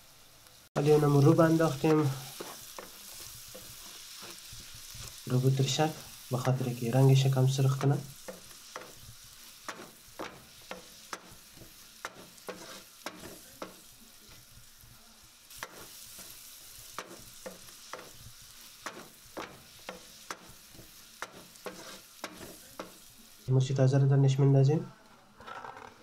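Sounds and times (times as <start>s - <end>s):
meat sizzling in a frying pan: 0.0s - 24.4s
wooden spatula scraping a pan: 0.8s - 23.4s.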